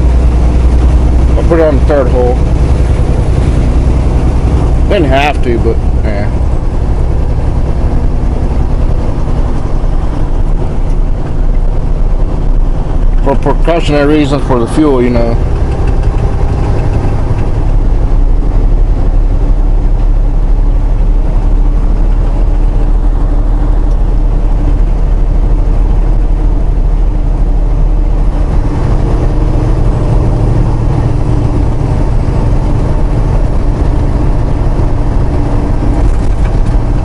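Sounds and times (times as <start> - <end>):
road noise: 0.0 - 37.0
truck diesel engine drone: 0.0 - 37.0.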